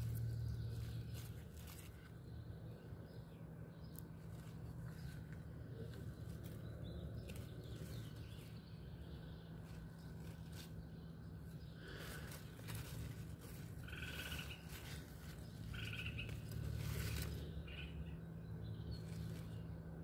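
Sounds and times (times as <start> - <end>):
faint bird chirps: 0.0 - 19.7
leaves rustling: 0.0 - 20.0
low steady rumble: 0.0 - 20.0.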